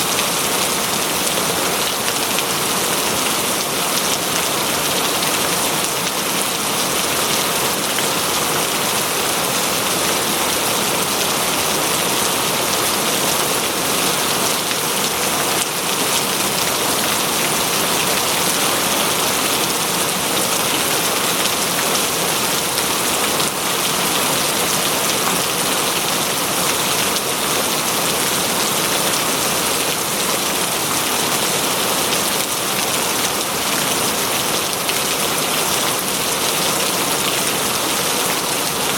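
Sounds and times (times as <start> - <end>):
heavy rain on foliage: 0.0 - 38.9.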